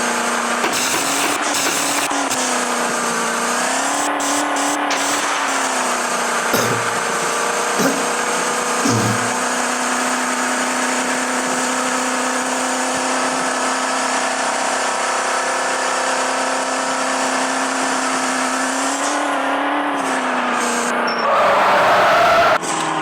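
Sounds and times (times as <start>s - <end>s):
van engine at high revs: 0.0s - 23.0s.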